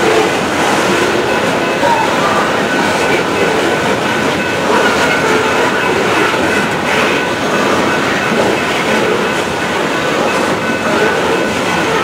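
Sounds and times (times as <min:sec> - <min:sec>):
steel wheels on rail: 0:00.0 - 0:12.0.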